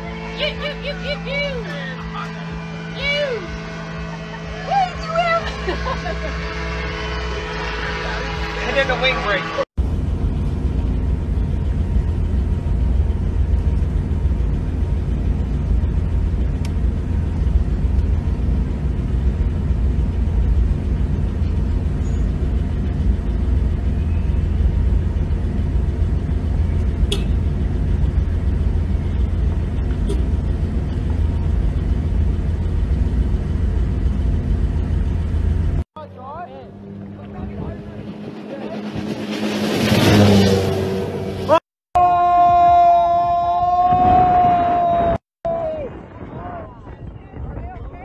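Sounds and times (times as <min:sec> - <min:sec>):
car engine idling: 0:00.0 - 0:39.6.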